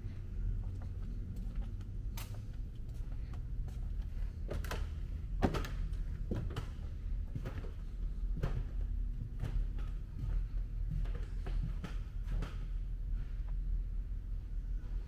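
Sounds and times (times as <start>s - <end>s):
low hum of indoor hall: 0.0s - 15.0s.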